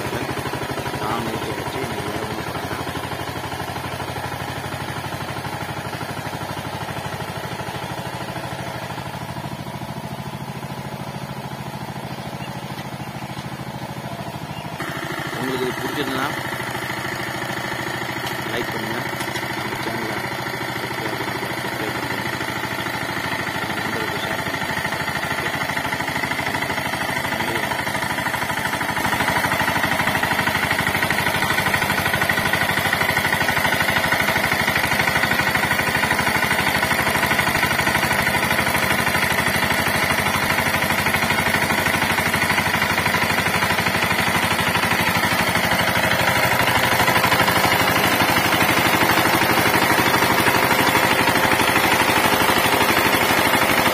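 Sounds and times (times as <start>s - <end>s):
diesel engine running: 0.0s - 53.9s
rotary tiller churning soil: 0.0s - 53.9s.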